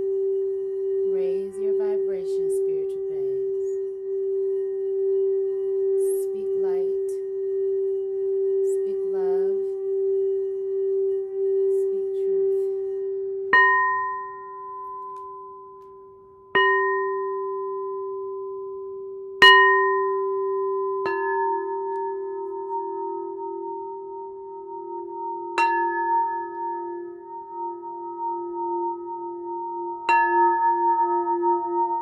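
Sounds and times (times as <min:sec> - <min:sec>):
singing bowl humming: 0:00.0 - 0:32.0
singing bowl strikes ringing: 0:00.0 - 0:32.0.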